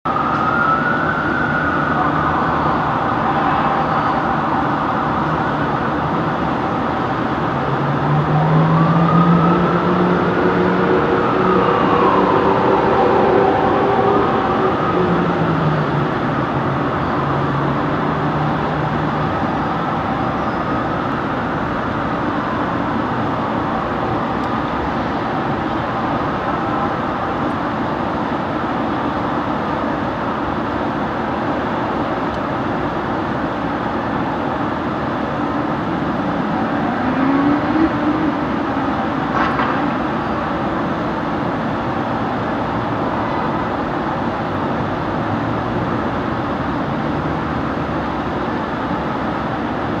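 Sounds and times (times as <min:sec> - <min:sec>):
fire engine and road noise: 0:00.0 - 0:50.0.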